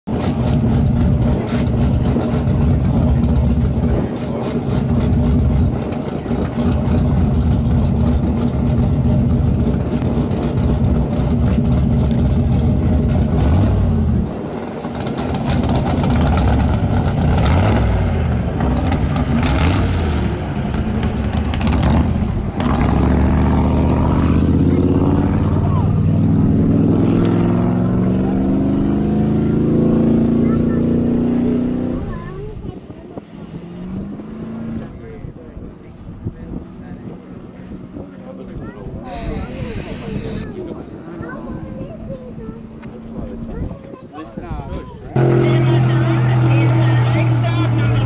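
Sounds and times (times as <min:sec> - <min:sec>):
race engines revving: 0:00.1 - 0:48.0.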